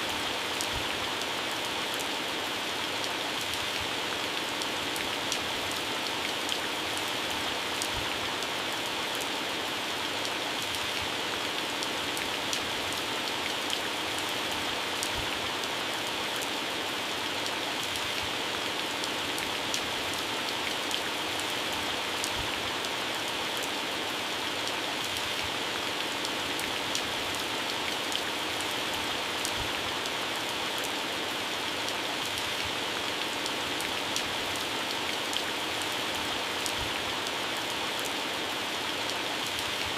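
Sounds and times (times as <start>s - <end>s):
heavy rain on plants: 0.0s - 39.9s.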